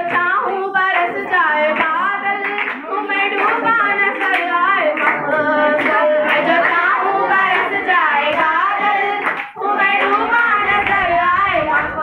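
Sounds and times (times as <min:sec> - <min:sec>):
girl singing through loudspeaker: 0:00.0 - 0:12.0
hand clapping: 0:00.0 - 0:12.0.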